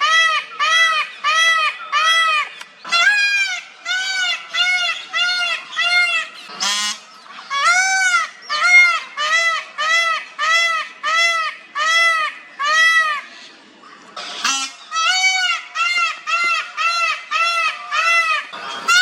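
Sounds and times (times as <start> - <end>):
peacock honking calls: 0.0 - 13.5, 14.2 - 19.0.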